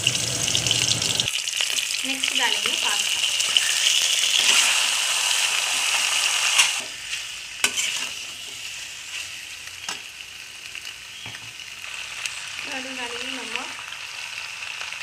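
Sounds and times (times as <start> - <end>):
pasta sizzling in hot oil: 0.0 - 15.0.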